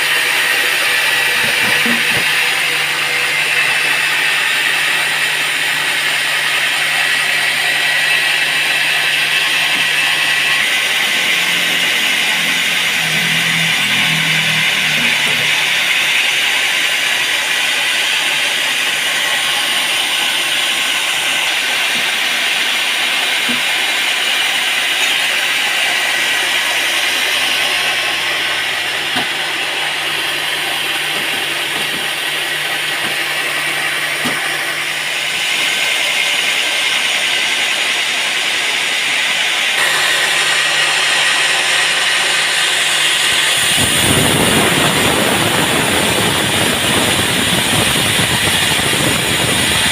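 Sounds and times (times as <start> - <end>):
low motor hum: 0.0 - 39.2, 39.8 - 49.9
saw hissing through log: 0.0 - 49.9.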